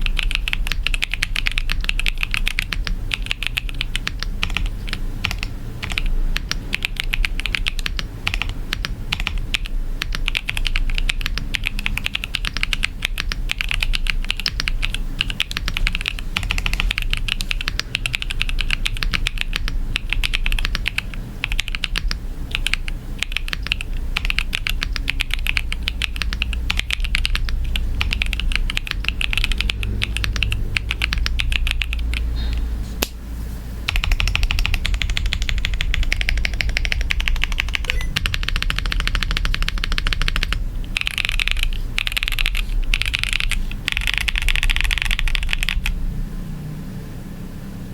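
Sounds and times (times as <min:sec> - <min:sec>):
fast mechanical keyboard typing: 0:00.0 - 0:32.6, 0:33.9 - 0:46.0.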